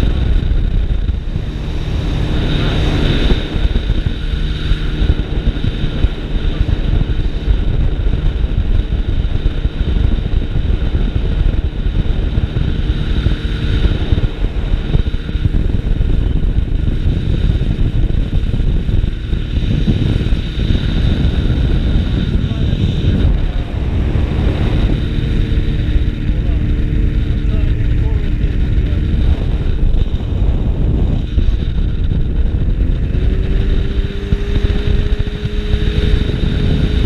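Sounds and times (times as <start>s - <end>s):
engine droning: 0.0s - 37.0s
wind buffeting microphone: 0.0s - 37.0s
wind rushing: 0.0s - 37.0s.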